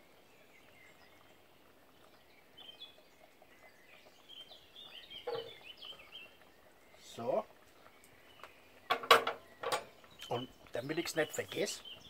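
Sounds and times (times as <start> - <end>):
faint bird chirps: 0.2 - 12.0.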